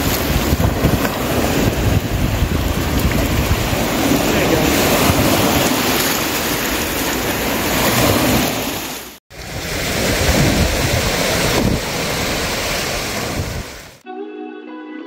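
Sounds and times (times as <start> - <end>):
wind buffeting microphone: 0.0 - 8.5, 9.4 - 13.9
waves breaking on sandy beach: 0.0 - 14.0.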